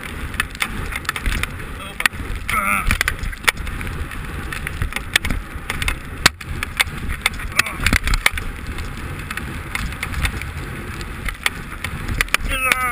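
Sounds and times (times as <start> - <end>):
wind buffeting microphone: 0.0 - 12.9
sharp clicks and knocks: 0.3 - 3.7, 4.4 - 12.9.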